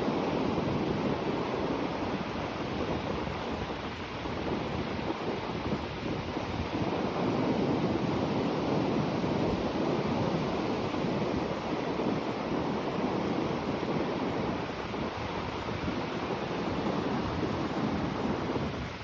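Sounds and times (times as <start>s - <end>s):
sea waves breaking on shore: 0.0s - 19.0s
wind on microphone: 0.0s - 19.0s.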